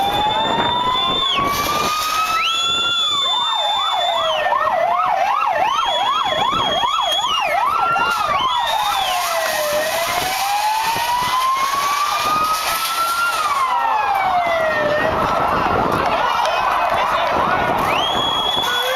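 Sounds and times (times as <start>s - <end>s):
high siren tone stepping: 0.0s - 18.9s
siren wailing: 0.0s - 18.9s
siren yelping: 0.0s - 18.9s.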